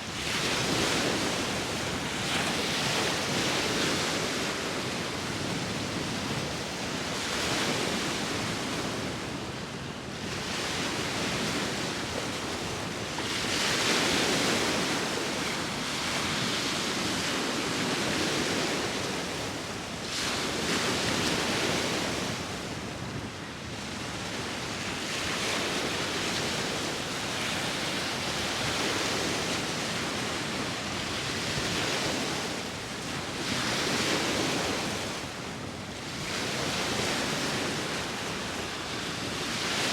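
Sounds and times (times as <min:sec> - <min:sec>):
ocean waves breaking: 0:00.0 - 0:09.5, 0:10.2 - 0:39.9.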